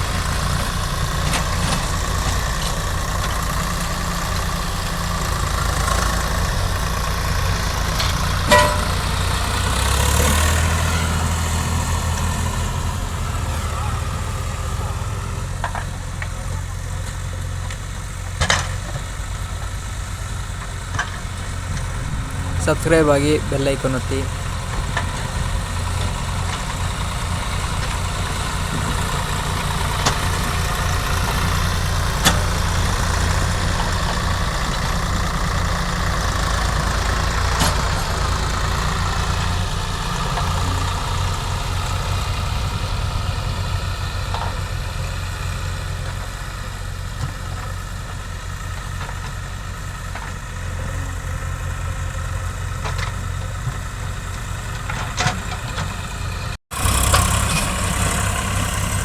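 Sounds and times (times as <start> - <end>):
heavy machine diesel engine: 0.0 - 59.0.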